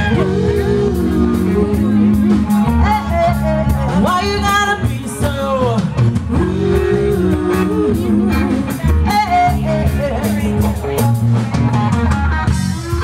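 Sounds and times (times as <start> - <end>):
woman singing lead: 0.0 - 11.5
drum kit: 0.0 - 13.0
electric guitars: 0.0 - 13.0.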